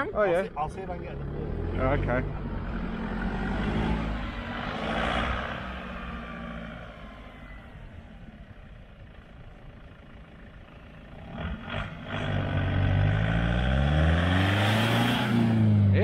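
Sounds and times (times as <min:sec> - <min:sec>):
vehicle engine driving on sand: 0:00.4 - 0:16.0.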